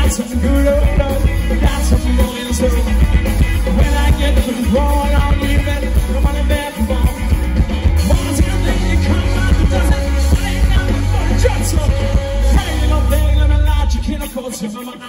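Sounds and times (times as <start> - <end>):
drums: 0.0 - 15.0
electric guitar: 0.0 - 15.0
heavy bass: 0.0 - 15.0.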